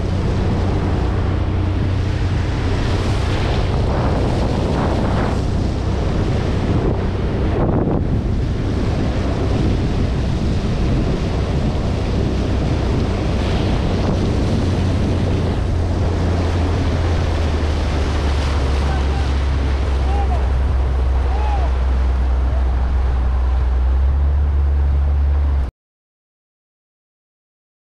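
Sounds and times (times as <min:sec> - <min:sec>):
motorboat engine drone: 0:00.0 - 0:25.7
water rushing along hull: 0:00.0 - 0:25.7
wind buffeting microphone: 0:00.0 - 0:25.7.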